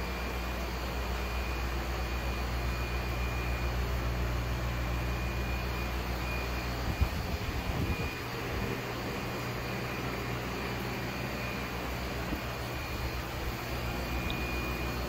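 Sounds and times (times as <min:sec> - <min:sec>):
faint high whine: 0:00.0 - 0:15.0
low mechanical hum: 0:00.0 - 0:15.0.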